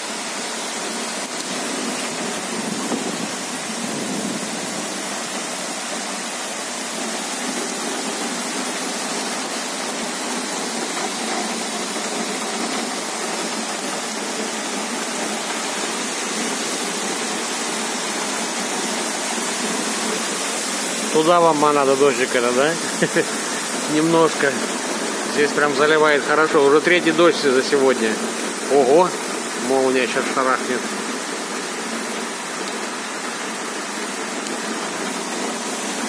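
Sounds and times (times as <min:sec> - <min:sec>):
heavy rain on wet pavement: 0:00.0 - 0:36.0.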